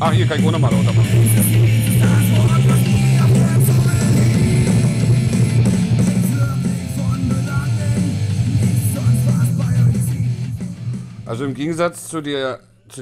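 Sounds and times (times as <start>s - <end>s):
rock music with guitars: 0.0s - 11.5s.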